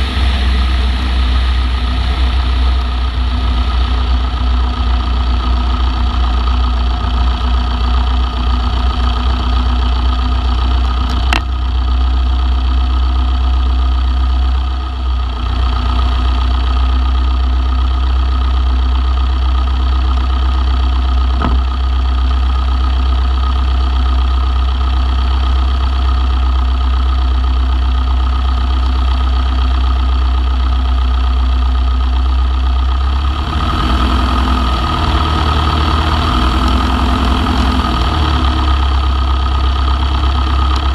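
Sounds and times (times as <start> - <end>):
aircraft piston engine running: 0.0 - 31.9, 33.0 - 40.9.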